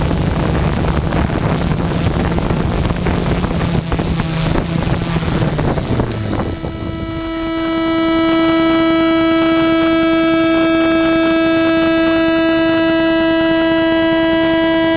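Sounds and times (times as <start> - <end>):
steady electronic tone: 0.0 - 14.9.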